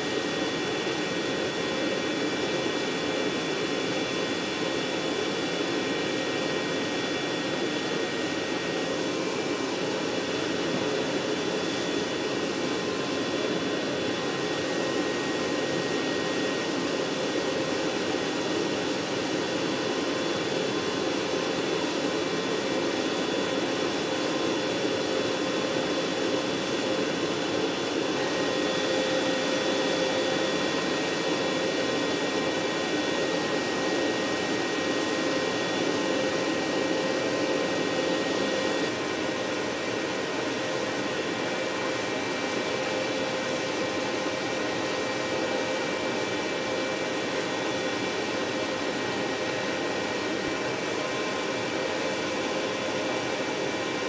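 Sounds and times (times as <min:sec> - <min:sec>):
turbine whine: 0:00.0 - 0:54.0.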